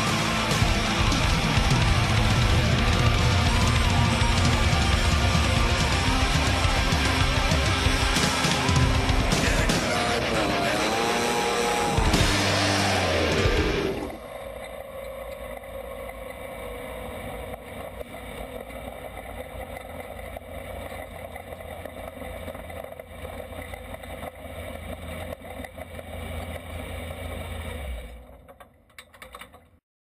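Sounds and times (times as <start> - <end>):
race car engine droning: 0.0 - 28.7.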